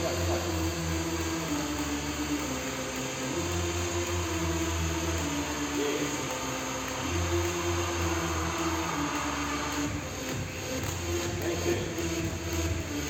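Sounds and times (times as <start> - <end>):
background music with bass line: 0.0 - 13.0
steady hiss: 0.0 - 13.0.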